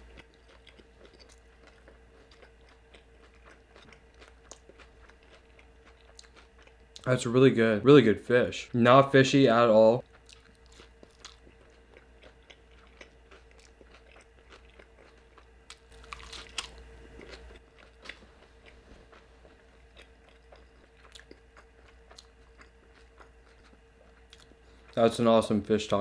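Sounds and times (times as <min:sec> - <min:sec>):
person chewing and biting food: 0:00.0 - 0:07.1, 0:10.0 - 0:25.0
faint steady hum: 0:00.0 - 0:26.0.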